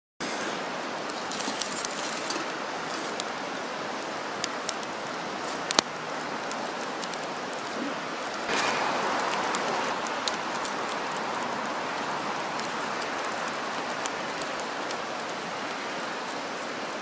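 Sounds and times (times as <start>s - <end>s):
fire hissing: 0.2s - 17.0s
campfire crackling and popping: 0.6s - 17.0s.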